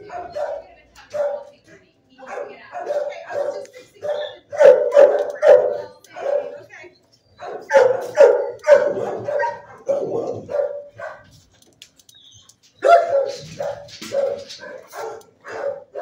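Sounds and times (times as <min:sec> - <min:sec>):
dogs barking: 0:00.0 - 0:11.5, 0:12.5 - 0:16.0.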